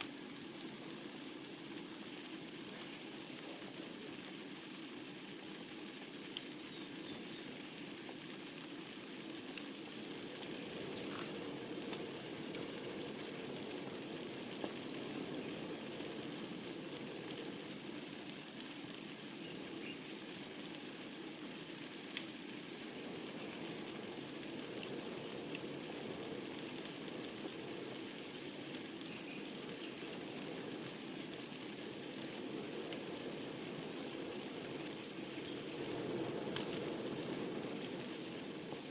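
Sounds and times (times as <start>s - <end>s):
fire flames rushing: 0.0s - 38.9s
logs crackling and popping: 0.0s - 38.9s.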